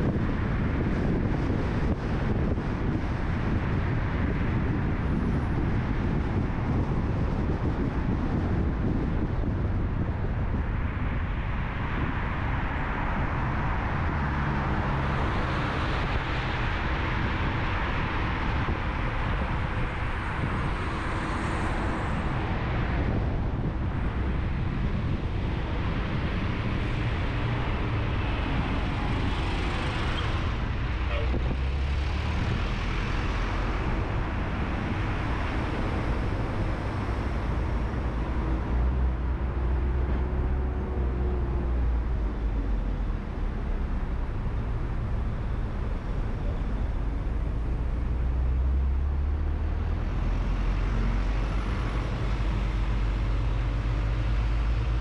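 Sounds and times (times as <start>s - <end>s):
surrounding traffic: 0.0s - 55.0s
wind and tyre noise: 0.0s - 55.0s.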